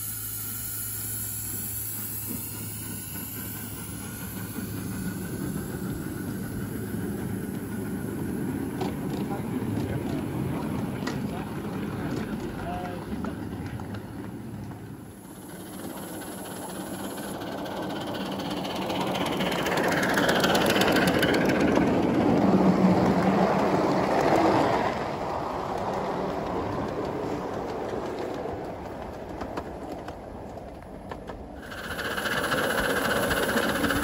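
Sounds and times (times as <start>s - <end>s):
miniature train wheels rumbling: 0.0s - 34.0s.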